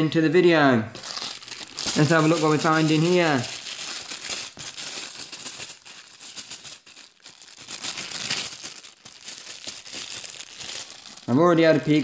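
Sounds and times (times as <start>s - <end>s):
plastic bag crinkling: 1.0s - 12.0s
coins rattling and clinking: 1.2s - 11.4s.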